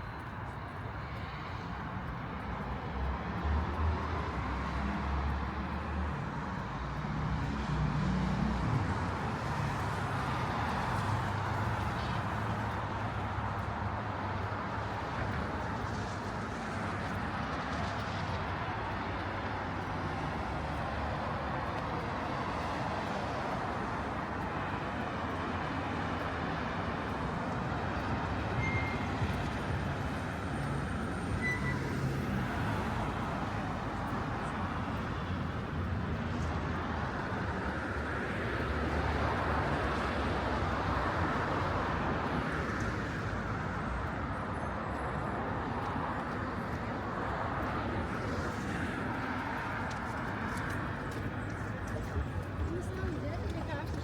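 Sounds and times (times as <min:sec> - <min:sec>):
city street traffic: 0:00.0 - 0:54.0.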